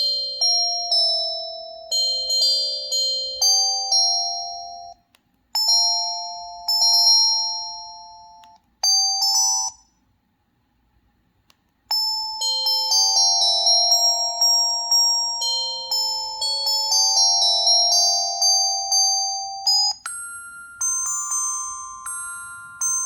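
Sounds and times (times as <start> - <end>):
phone ringtone bell-like chimes: 0.0 - 5.0, 5.6 - 10.0, 11.9 - 23.0.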